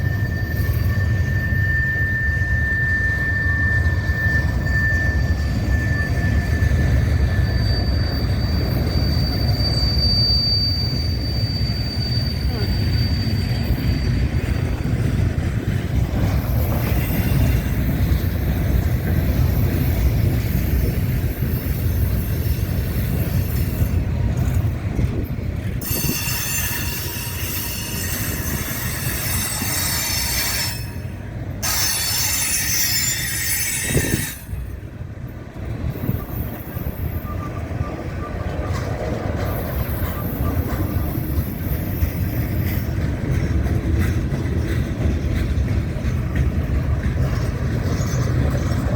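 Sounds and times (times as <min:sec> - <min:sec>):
high-pitched wheel squeal: 0:00.0 - 0:34.8, 0:35.8 - 0:43.1, 0:46.3 - 0:48.9
freight train rumbling past: 0:00.0 - 0:48.9.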